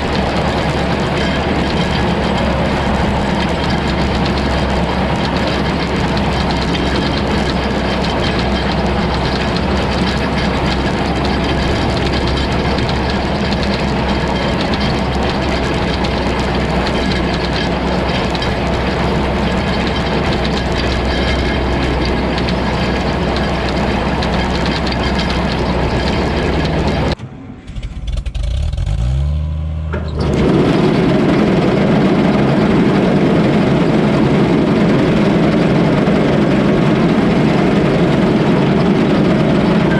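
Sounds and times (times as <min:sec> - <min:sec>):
hay baler clatter: 0:00.0 - 0:27.2, 0:29.9 - 0:39.9
tractor engine running: 0:00.0 - 0:39.9.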